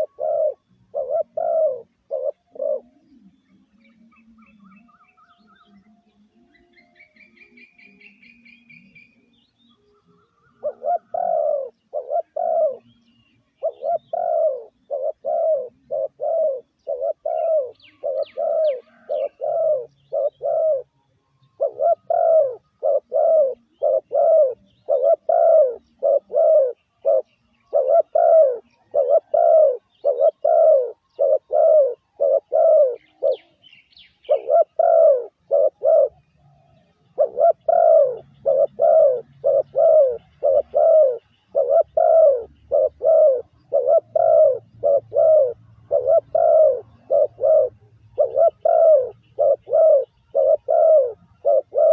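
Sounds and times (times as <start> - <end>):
dove cooing: 0.0 - 5.8, 10.0 - 51.9.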